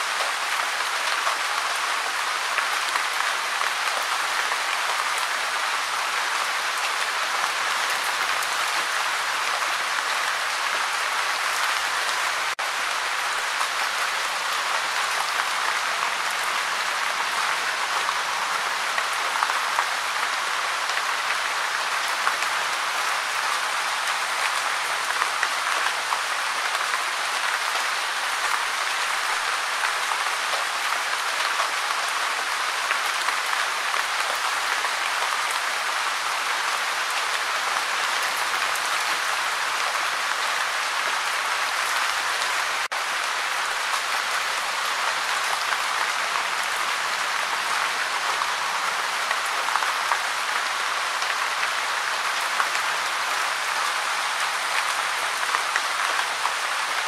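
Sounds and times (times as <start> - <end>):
gentle rain falling: 0.0 - 57.0.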